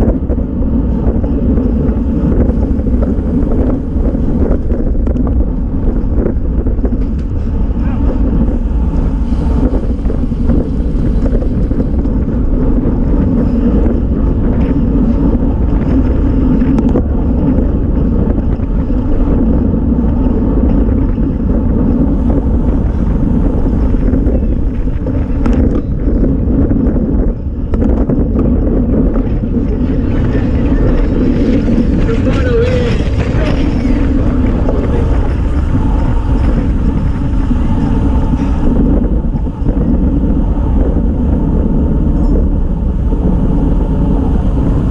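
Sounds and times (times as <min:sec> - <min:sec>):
road and tyre noise: 0:00.0 - 0:44.9
wind buffeting microphone: 0:00.0 - 0:44.9.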